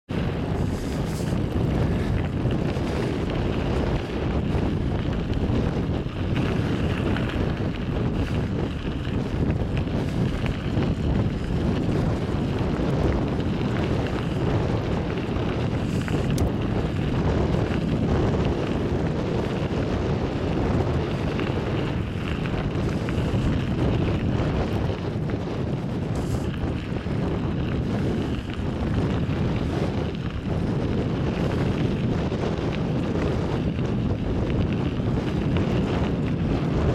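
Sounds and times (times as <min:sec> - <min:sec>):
wind buffeting microphone: 0:00.0 - 0:36.9
moving vehicle rumble: 0:00.2 - 0:36.9.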